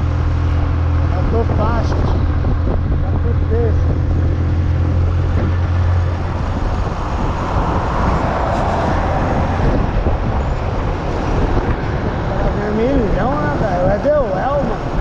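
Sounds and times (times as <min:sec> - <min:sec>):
road and wind noise: 0:00.0 - 0:15.0
vehicle engine hum: 0:00.0 - 0:15.0.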